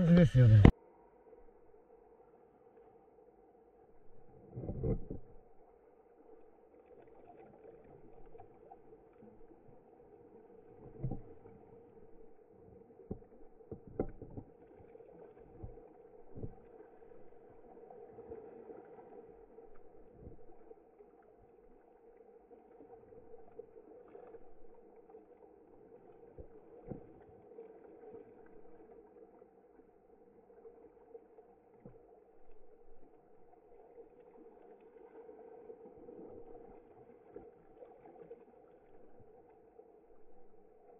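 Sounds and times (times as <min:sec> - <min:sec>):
faint steady hum: 0:00.0 - 0:40.9
water lapping and sloshing: 0:02.5 - 0:40.9.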